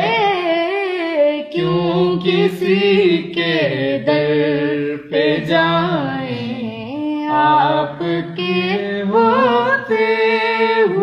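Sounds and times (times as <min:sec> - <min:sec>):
boy singing: 0:00.0 - 0:11.0.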